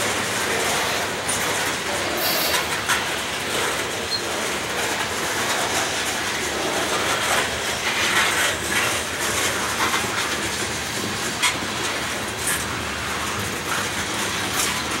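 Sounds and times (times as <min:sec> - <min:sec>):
freight train rolling by: 0:00.0 - 0:15.0
wheels clicking over rail joints: 0:00.0 - 0:15.0.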